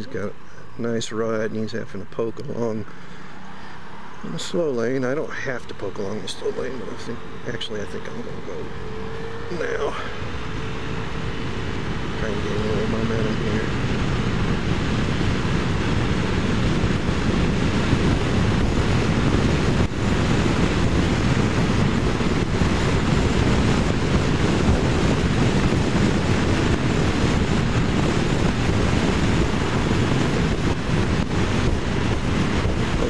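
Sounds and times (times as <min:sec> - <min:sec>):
wind rushing on microphone: 0:00.0 - 0:33.0.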